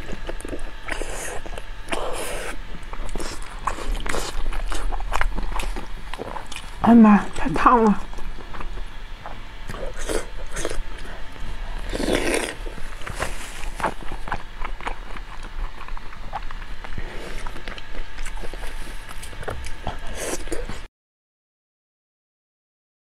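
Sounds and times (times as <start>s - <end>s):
wet chewing and smacking: 0.0s - 6.8s, 7.7s - 20.9s.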